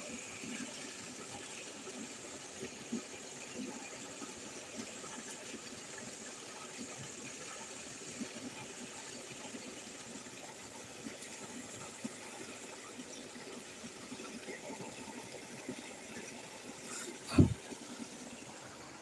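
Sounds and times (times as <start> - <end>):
water gushing from a pipe: 0.0 - 19.0.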